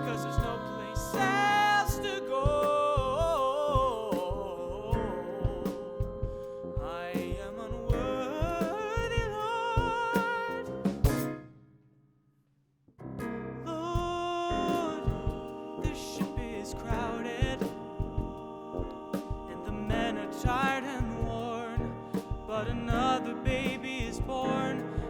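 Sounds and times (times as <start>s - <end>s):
drum beat: 0.0s - 11.4s, 14.0s - 25.0s.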